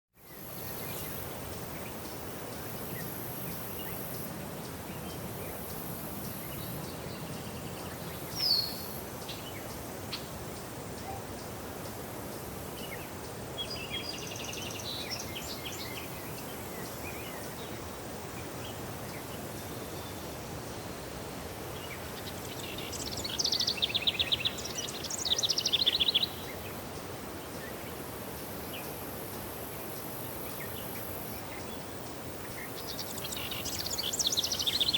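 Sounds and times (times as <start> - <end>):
songbirds calling and singing: 0.2 - 34.9
steady background hiss: 0.2 - 34.9.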